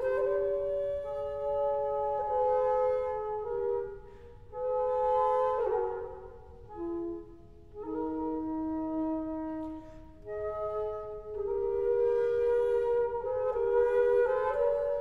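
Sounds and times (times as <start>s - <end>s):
flute duet: 0.0s - 15.0s.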